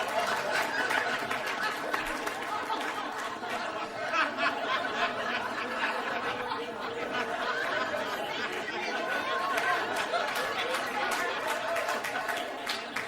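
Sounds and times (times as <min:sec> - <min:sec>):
crowd laughing and chattering: 0:00.0 - 0:13.0.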